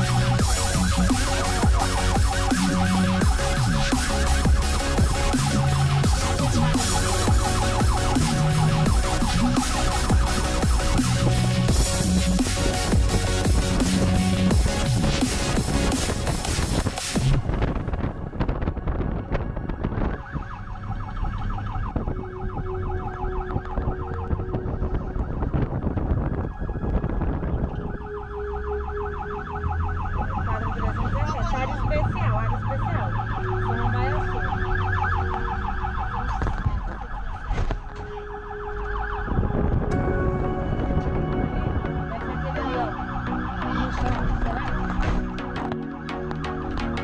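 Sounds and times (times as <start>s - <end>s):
ambulance siren wailing: 0.0s - 47.0s
low vehicle rumble: 0.0s - 47.0s.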